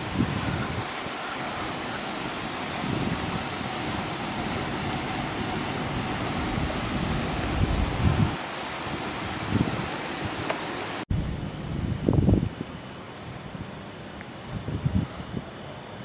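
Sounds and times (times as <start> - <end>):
wind on microphone: 0.0 - 13.8, 14.4 - 15.7.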